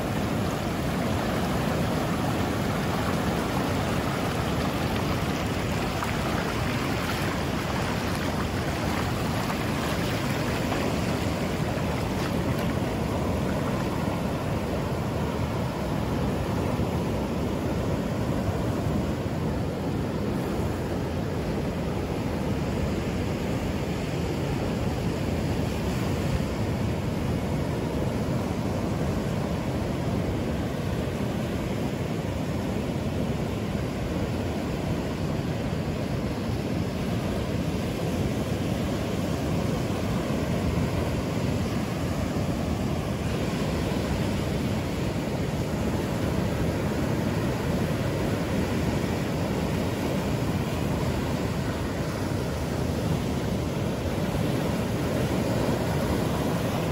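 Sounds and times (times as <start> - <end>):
ocean surf on beach: 0.0 - 56.9.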